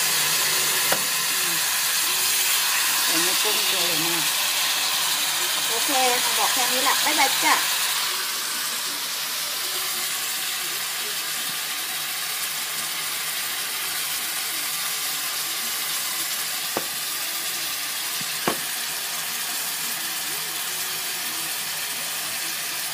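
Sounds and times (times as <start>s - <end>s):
food sizzling in a wok: 0.0s - 22.9s.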